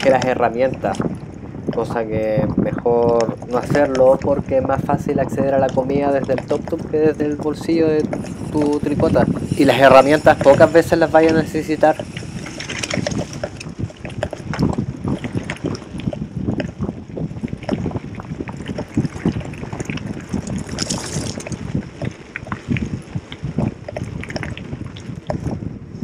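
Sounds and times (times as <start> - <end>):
bike rattling on gravel: 0.0 - 1.1, 1.7 - 25.7
wind on microphone: 0.0 - 26.0.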